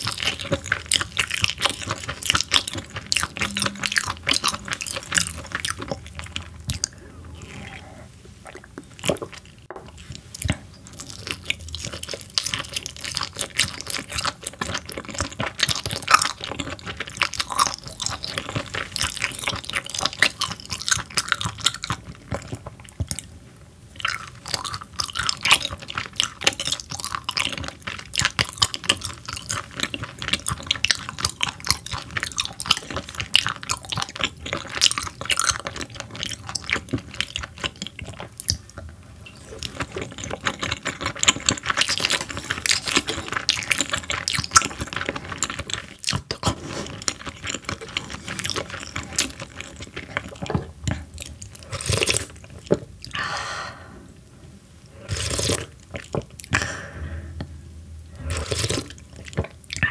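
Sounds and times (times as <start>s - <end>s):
close-miked chewing: 0.0s - 53.3s, 54.8s - 59.9s.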